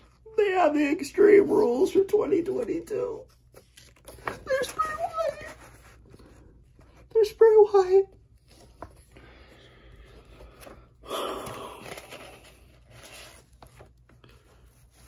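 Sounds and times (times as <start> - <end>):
magazine pages rustling: 0.9 - 15.0.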